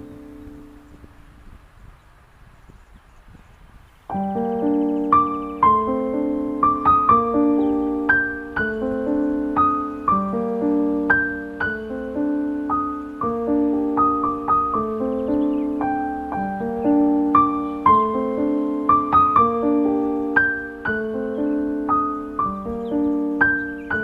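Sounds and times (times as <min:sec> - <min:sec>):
gentle piano melody: 0:00.0 - 0:01.9, 0:04.1 - 0:24.0.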